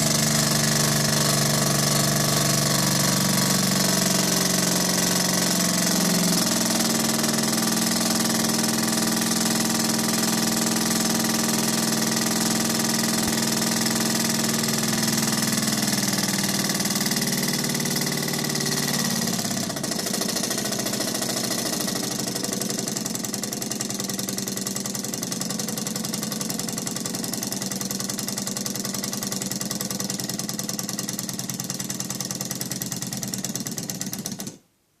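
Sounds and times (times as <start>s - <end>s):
model engine humming and clattering: 0.0s - 34.6s.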